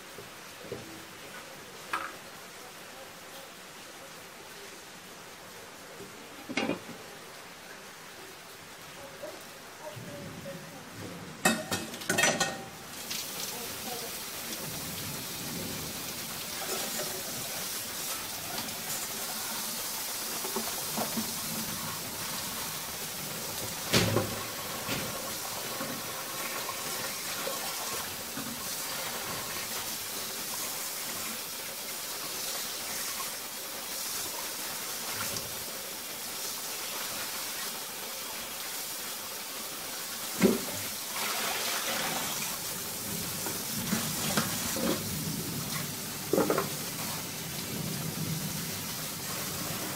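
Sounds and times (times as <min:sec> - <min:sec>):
prawns sizzling in a covered pan: 0:00.0 - 0:49.9.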